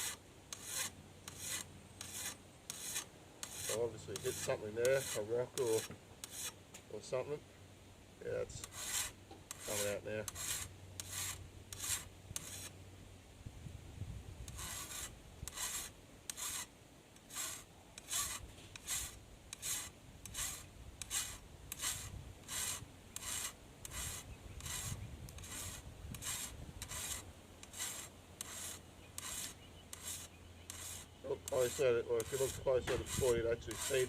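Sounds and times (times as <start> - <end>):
hand file rasping on steel: 0.0 - 6.6, 8.5 - 12.7, 14.5 - 34.0.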